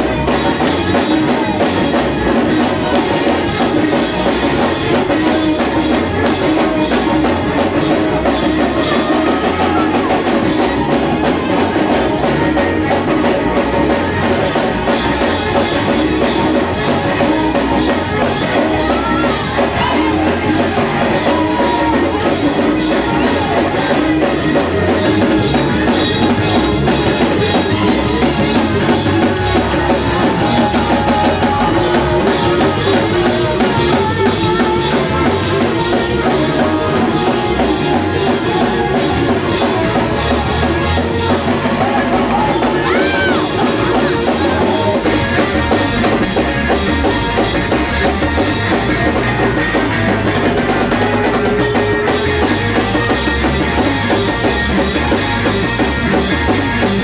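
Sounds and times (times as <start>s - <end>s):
fast drum kit strokes: 0.0s - 57.0s
live church band music: 0.0s - 57.0s.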